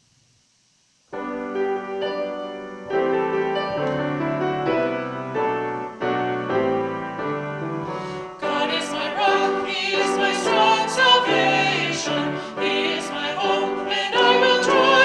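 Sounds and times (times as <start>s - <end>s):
piano chords of a hymn: 1.1s - 15.0s.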